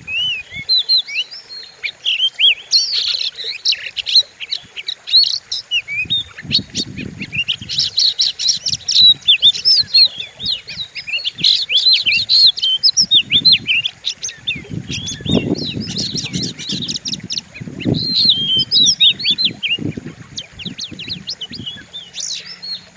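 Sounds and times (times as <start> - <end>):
bird singing chirps and whistles: 0.0 - 4.3, 5.1 - 22.9.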